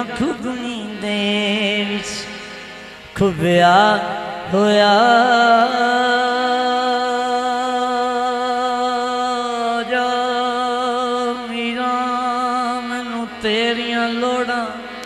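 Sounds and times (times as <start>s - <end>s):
harmonium drone: 0.0s - 15.0s
singer holding long notes: 0.0s - 15.0s.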